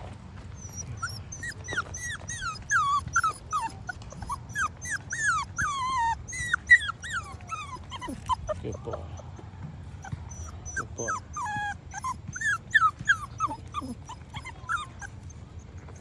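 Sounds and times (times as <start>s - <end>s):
puppy whining in high squeals: 0.6s - 9.4s, 10.0s - 16.0s.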